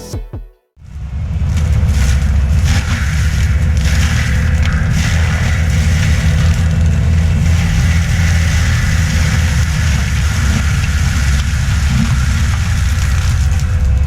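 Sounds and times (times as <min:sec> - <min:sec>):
heavy diesel engine droning: 0:00.8 - 0:14.0.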